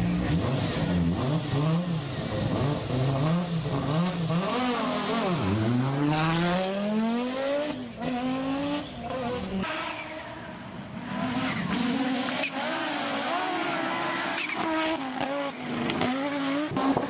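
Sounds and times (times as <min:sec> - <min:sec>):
rally car engine revving: 0:00.0 - 0:10.2, 0:11.1 - 0:17.0.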